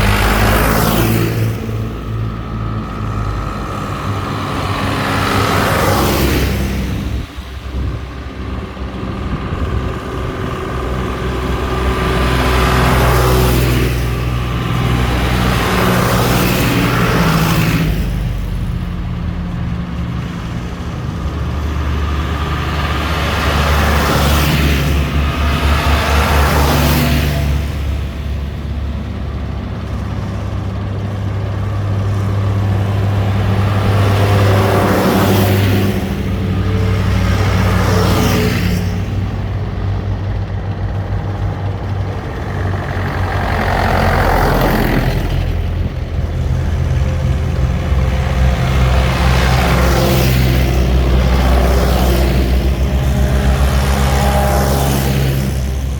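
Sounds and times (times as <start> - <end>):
tractors driving past: 0.0 - 55.9.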